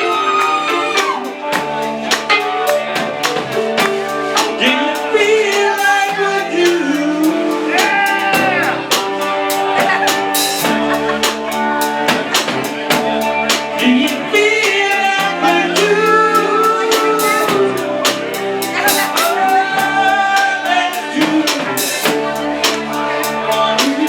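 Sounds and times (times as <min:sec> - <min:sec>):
bass line: 0:00.0 - 0:24.0
drum kit beat: 0:00.0 - 0:24.0
live rock band playing: 0:00.0 - 0:24.0.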